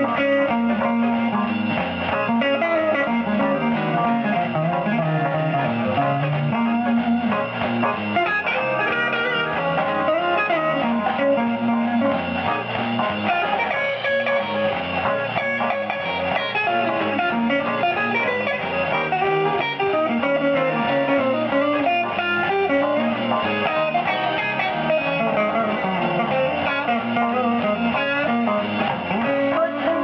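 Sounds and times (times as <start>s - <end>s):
plucked guitar music: 0.0s - 30.0s.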